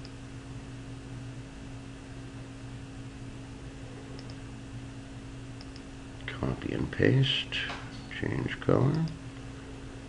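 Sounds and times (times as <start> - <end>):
low electrical hum with hiss: 0.0 - 10.0.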